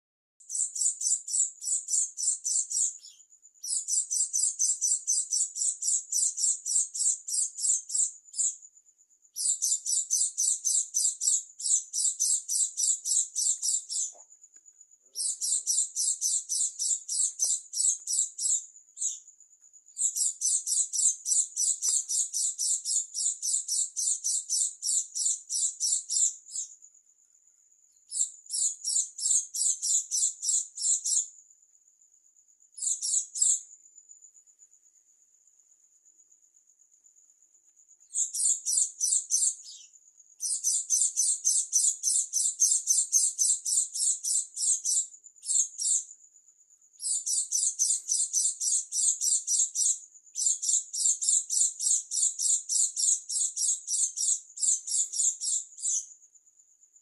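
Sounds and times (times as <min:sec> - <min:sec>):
bird chattering song: 0:00.4 - 0:08.6, 0:09.4 - 0:14.4, 0:15.0 - 0:19.3, 0:20.0 - 0:26.8, 0:28.0 - 0:31.3, 0:32.8 - 0:33.7, 0:38.1 - 0:46.1, 0:47.0 - 0:56.2.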